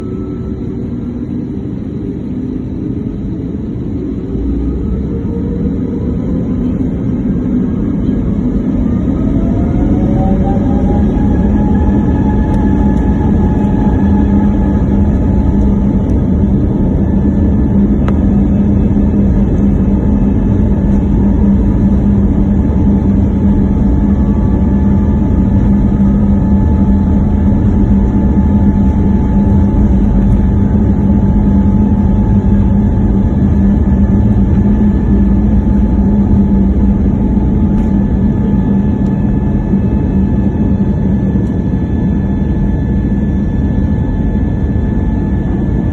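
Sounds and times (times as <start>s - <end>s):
jet engines at takeoff power: 0.0s - 45.9s.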